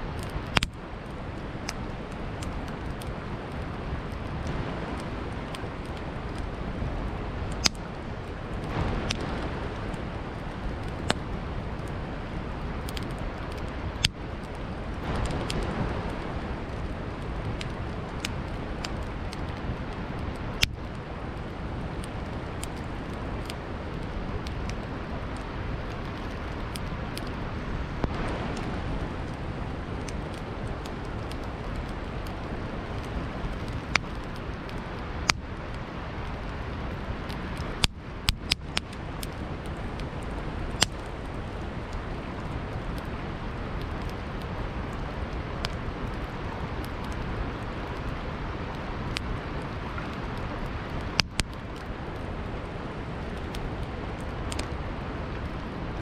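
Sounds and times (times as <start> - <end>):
campfire crackling and popping: 0.0 - 56.0
flowing river: 0.0 - 56.0.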